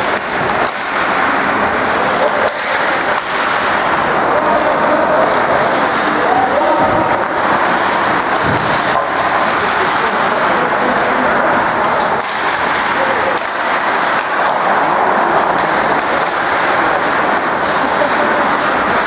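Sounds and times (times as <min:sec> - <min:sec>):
skates scraping on ice: 0:00.0 - 0:19.0
voices: 0:00.0 - 0:19.0.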